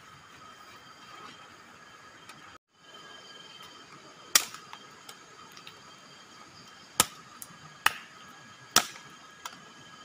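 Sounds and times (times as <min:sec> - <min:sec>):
night insects chirring: 0:00.0 - 0:10.0.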